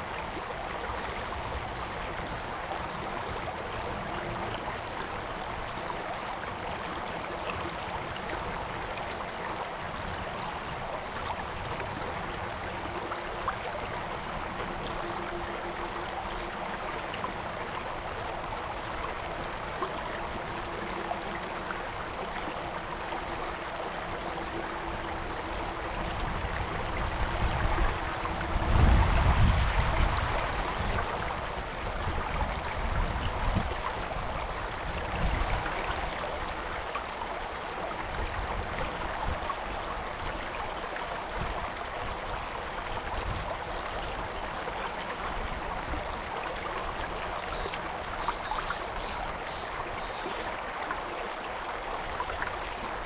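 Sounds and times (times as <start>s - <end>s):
stream water flowing: 0.0s - 53.0s.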